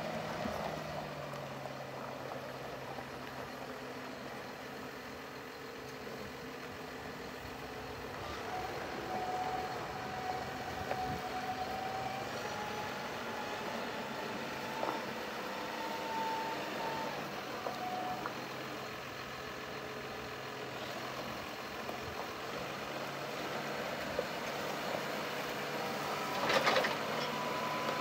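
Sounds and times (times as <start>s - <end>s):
steady whine: 0.0s - 28.0s
tractor diesel engine idling: 0.0s - 28.0s.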